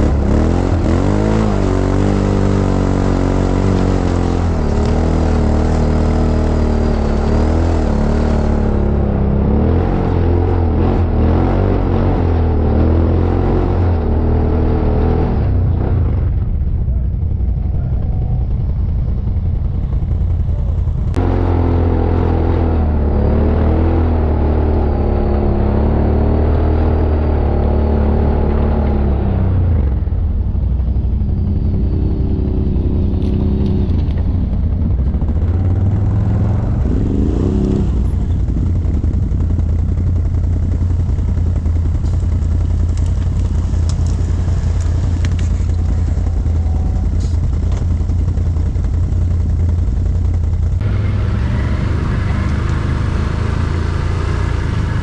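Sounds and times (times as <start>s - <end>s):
engine revving: 0.0s - 16.5s, 20.2s - 30.3s, 31.1s - 55.0s
atv engines rumbling: 0.0s - 55.0s.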